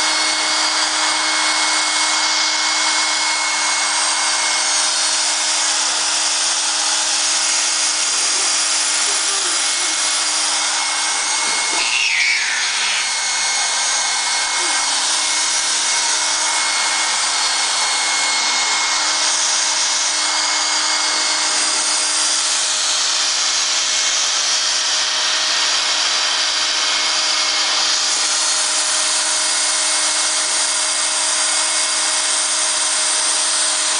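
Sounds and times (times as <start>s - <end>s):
hair dryer running: 0.0s - 33.9s.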